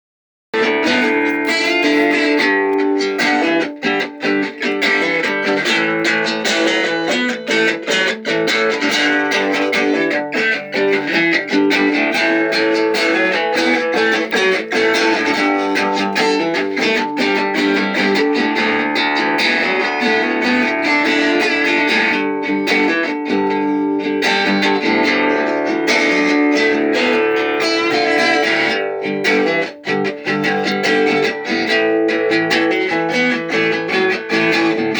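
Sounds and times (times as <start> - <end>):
plucked and strummed guitar: 0.6 - 34.9.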